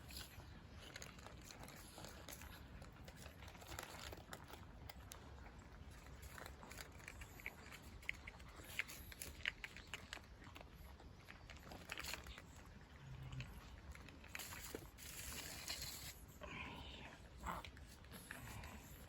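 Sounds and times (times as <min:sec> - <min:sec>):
cats crunching dry food: 0:00.0 - 0:19.0.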